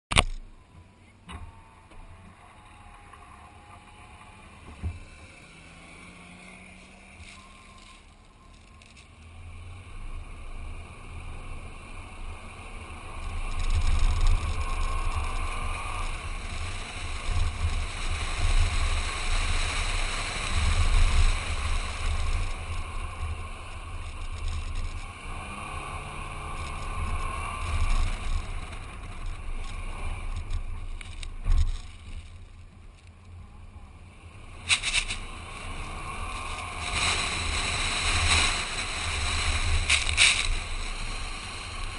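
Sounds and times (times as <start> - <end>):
car engine revving: 1.5 - 41.9.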